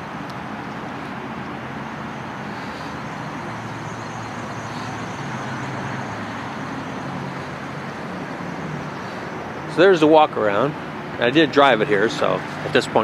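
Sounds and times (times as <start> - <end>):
low engine drone: 0.0 - 13.0
road traffic hum: 0.0 - 13.0.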